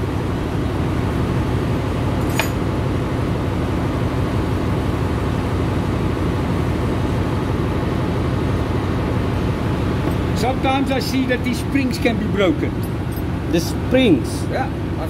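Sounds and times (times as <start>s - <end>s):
engine-room machinery drone: 0.0s - 15.0s.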